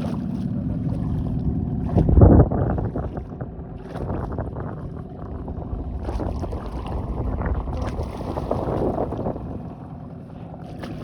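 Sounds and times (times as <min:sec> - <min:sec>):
outboard motor humming: 0:00.0 - 0:11.0
wind buffeting microphone: 0:00.0 - 0:11.0.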